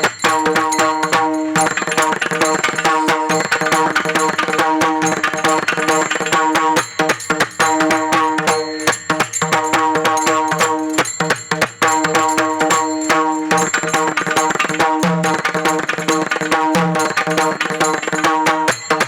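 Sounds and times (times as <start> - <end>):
held melodic notes: 0.0 - 18.7
fast hand drumming: 0.0 - 19.0.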